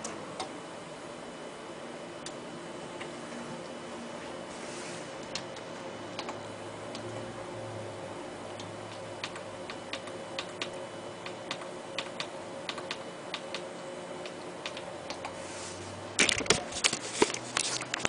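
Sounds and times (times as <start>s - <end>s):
steady fan hum: 0.0s - 18.0s.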